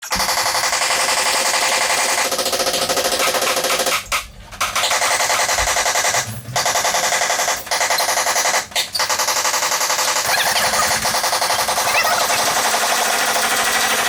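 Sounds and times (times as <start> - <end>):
fast rattling taps: 0.0 - 14.0.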